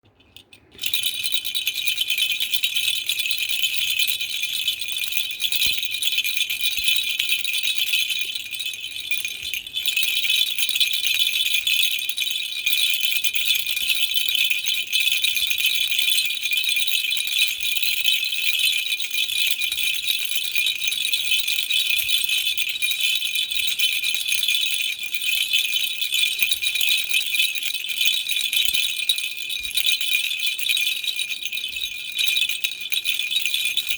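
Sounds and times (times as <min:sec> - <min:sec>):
baby rattle shaking: 0:00.2 - 0:33.9.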